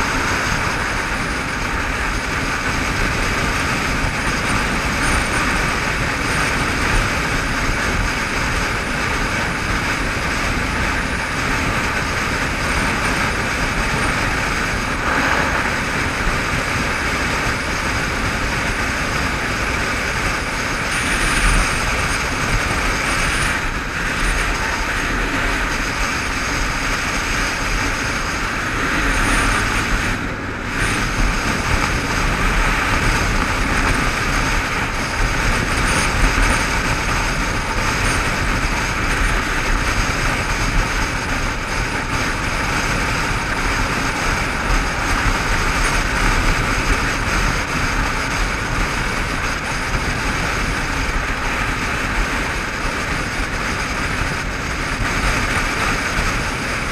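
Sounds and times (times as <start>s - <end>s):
motorcycle engine and tyres droning: 0.0s - 56.9s
wind noise on camera: 0.0s - 56.9s.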